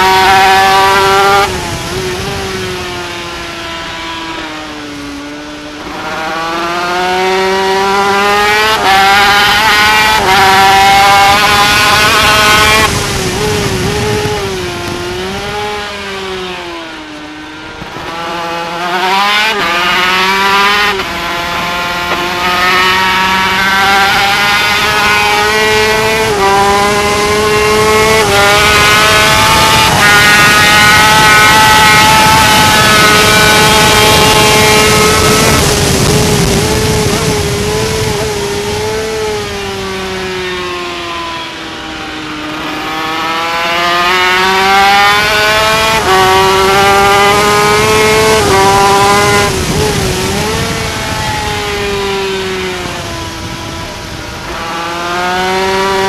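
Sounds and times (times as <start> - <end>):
racing engine revving with upshifts: 0.0 - 56.0.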